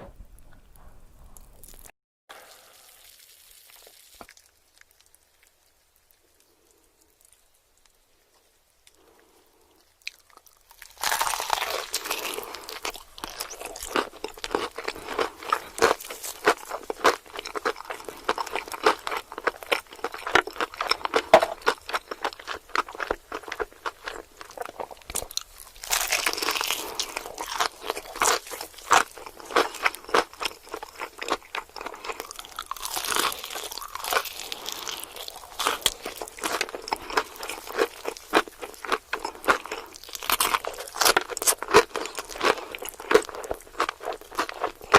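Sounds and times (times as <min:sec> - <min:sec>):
chewing crunchy food: 0:03.7 - 0:44.9.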